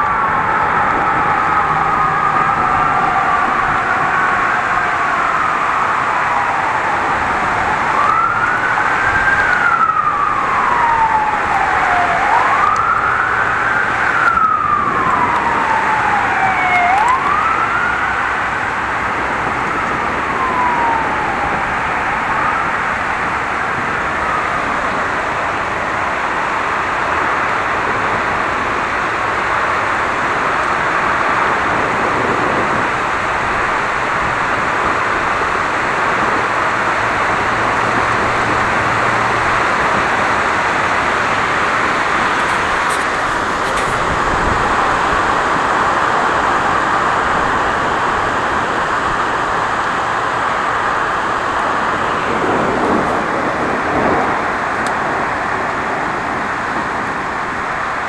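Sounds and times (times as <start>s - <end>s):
emergency vehicle siren wailing: 0.0s - 58.0s.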